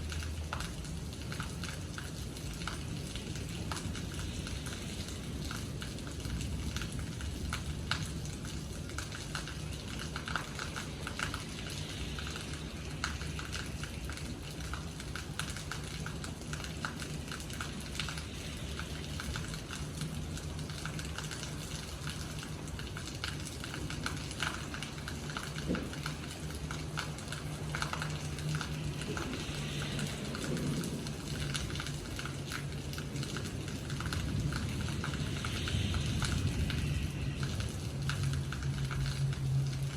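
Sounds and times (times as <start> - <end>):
raindrops ticking on hard surface: 0.0 - 39.9.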